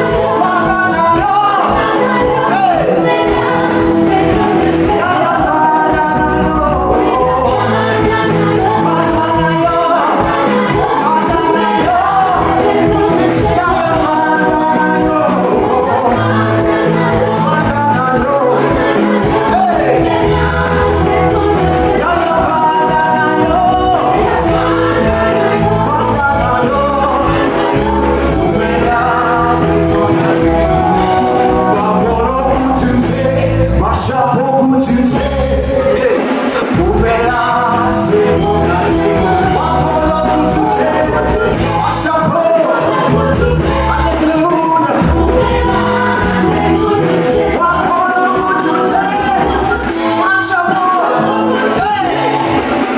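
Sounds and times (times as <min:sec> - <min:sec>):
band with steady bass: 0:00.0 - 0:52.9
voices singing together: 0:00.0 - 0:52.9.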